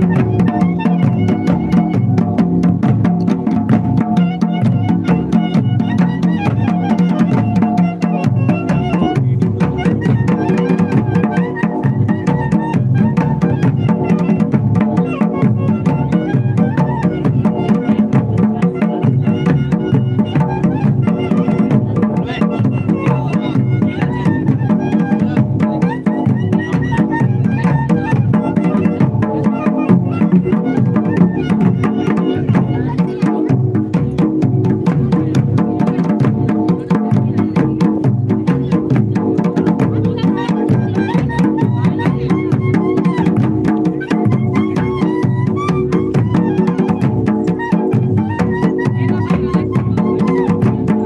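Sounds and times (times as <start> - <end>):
drum beaten with a stick: 0.0 - 51.0.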